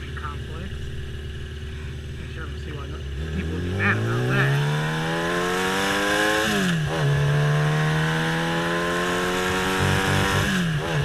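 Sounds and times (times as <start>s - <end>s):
motorcycle engine shifting gears: 0.0s - 11.0s.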